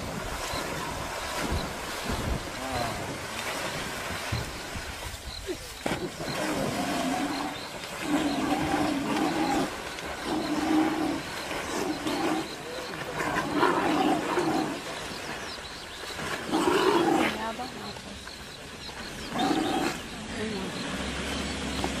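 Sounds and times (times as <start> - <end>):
water splashing: 0.0 - 22.0
drawn-out animal calls: 0.1 - 22.0.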